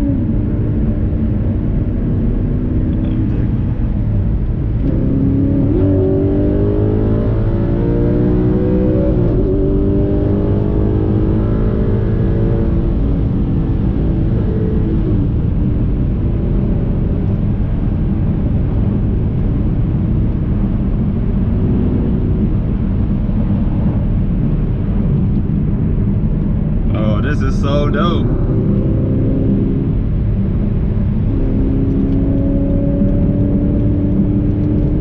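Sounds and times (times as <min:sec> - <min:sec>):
car engine accelerating: 0:00.0 - 0:35.0
road rumble: 0:00.0 - 0:35.0.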